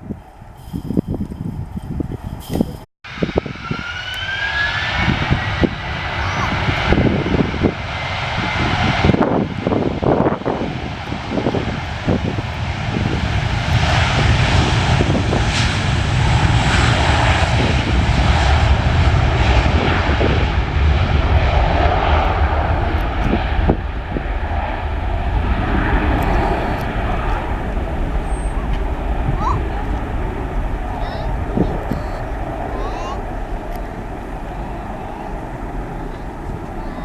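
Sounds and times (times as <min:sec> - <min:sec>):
jet engines roaring: 0:02.0 - 0:37.0.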